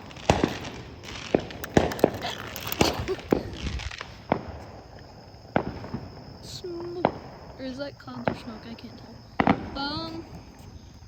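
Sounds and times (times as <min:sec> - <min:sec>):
fireworks bangs and cracks: 0:00.0 - 0:10.4
fireworks hissing crackle: 0:00.0 - 0:11.0.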